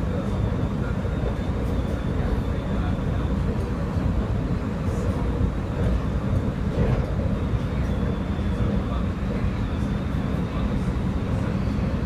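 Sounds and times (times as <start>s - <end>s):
low rumble of wheels on rail: 0.0s - 12.0s.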